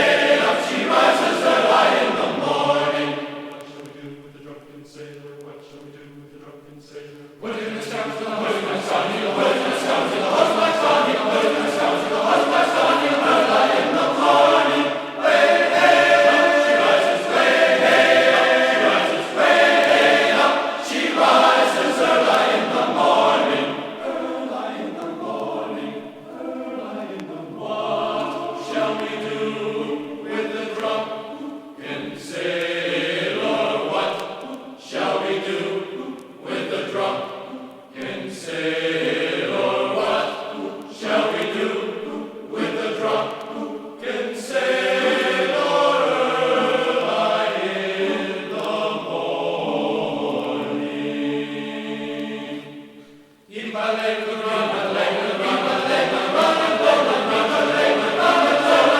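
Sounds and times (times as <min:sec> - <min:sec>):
choral singing: 0:00.0 - 0:58.9.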